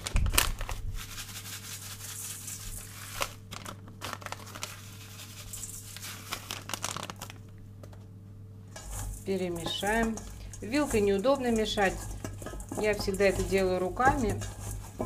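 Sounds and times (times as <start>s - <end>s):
seasoning shaken from packet: 0.0s - 7.4s, 8.8s - 15.0s.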